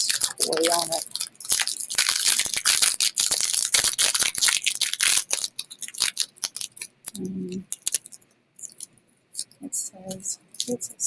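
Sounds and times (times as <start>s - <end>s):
plastic wrapper crackling: 0.0s - 9.6s, 10.4s - 10.9s.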